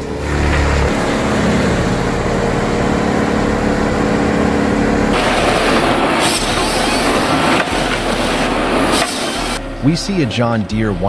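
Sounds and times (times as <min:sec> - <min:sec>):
heavy machine engine running: 0:00.0 - 0:11.0
rough grinding noise: 0:00.0 - 0:11.0.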